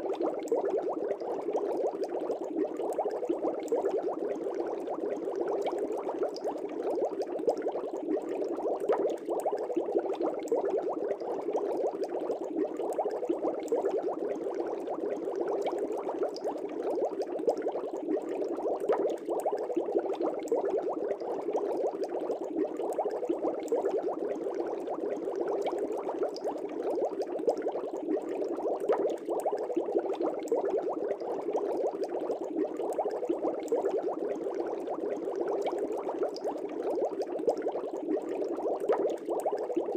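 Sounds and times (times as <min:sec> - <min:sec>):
aquarium air bubbles: 0:00.0 - 0:39.9.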